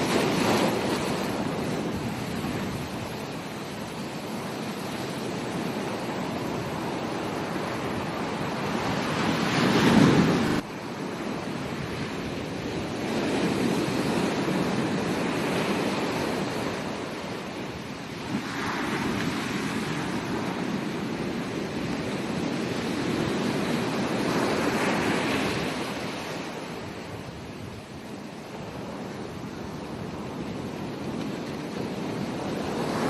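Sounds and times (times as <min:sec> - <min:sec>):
ocean surf on a beach: 0:00.0 - 0:33.0.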